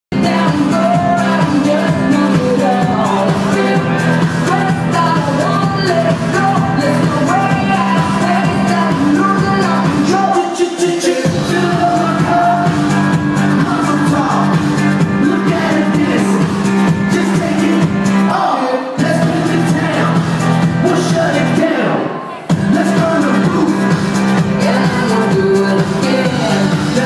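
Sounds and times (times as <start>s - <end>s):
dance music with singing: 0.1s - 27.0s.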